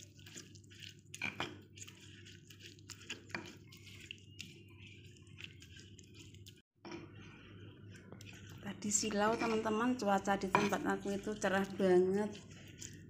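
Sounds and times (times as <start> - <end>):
stone pestle squishing wet paste: 0.0 - 6.6, 7.5 - 13.0.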